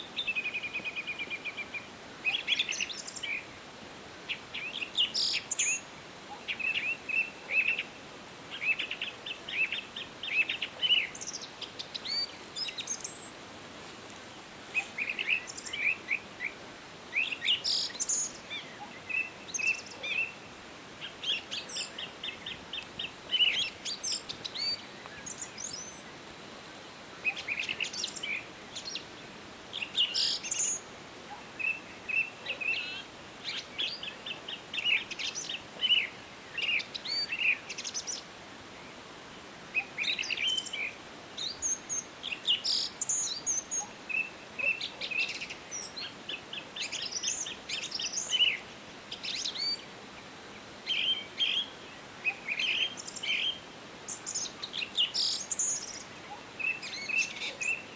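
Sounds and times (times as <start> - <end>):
faint background hiss: 0.0 - 57.9
songbirds chirping and trilling: 0.0 - 57.9.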